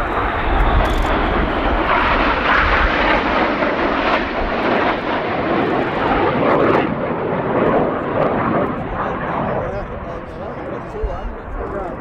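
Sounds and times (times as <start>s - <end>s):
deep jet rumble: 0.0s - 12.0s
jet aircraft flying past: 0.0s - 12.0s.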